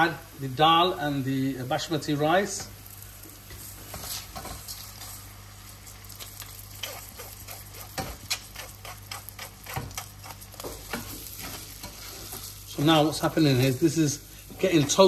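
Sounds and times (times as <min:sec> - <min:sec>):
grains sizzling in hot fat: 0:00.0 - 0:15.0.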